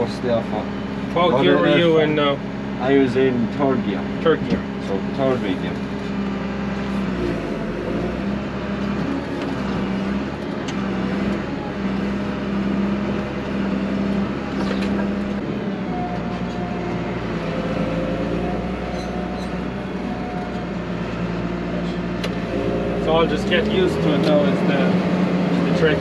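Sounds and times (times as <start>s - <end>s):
tractor engine drone: 0.0s - 26.0s.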